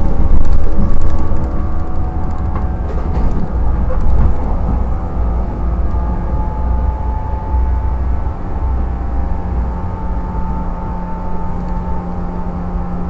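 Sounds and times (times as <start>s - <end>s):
traction motor hum: 0.0s - 13.0s
train wheels rumbling on rail: 0.0s - 13.0s.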